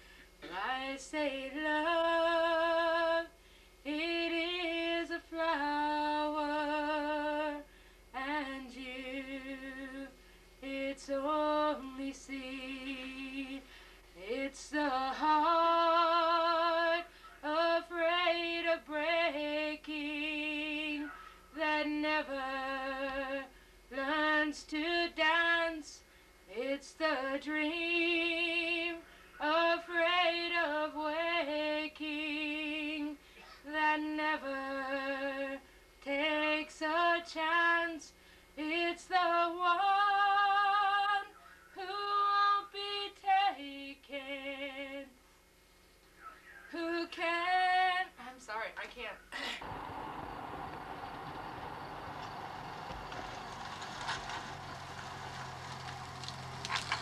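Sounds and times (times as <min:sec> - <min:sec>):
woman singing unaccompanied: 0:00.4 - 0:45.2, 0:46.7 - 0:51.5.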